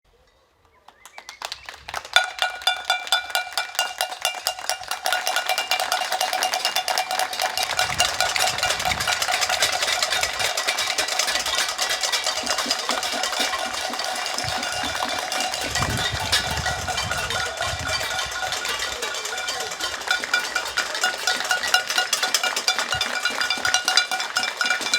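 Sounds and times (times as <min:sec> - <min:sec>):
people clapping: 0:00.6 - 0:24.9
metal object clanging: 0:02.2 - 0:24.9.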